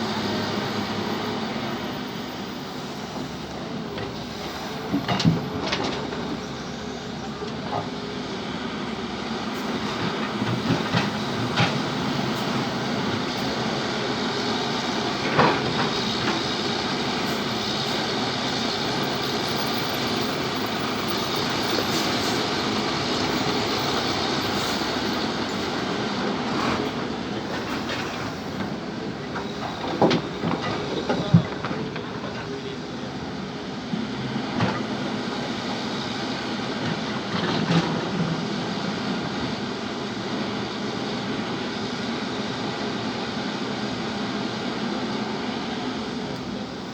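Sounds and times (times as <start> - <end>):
excavator engine and hydraulics: 0.0 - 46.9.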